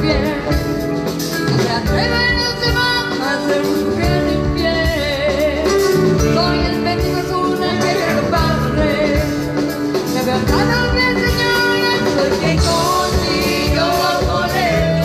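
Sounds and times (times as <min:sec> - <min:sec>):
rock band playing: 0:00.0 - 0:15.0
steady drum beat: 0:00.0 - 0:15.0.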